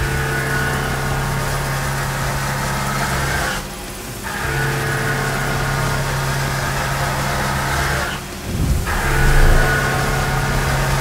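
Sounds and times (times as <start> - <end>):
coolant hiss: 0.0 - 11.0
low machining hum: 0.0 - 11.0.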